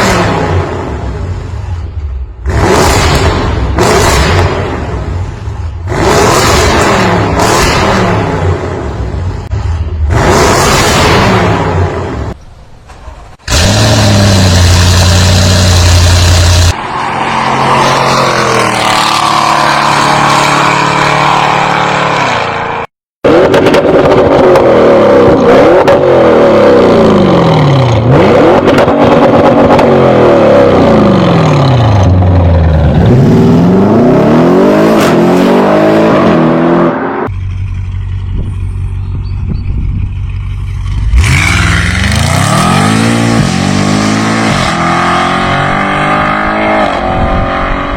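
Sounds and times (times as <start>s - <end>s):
car engine revving: 0.0s - 12.4s, 13.4s - 47.9s.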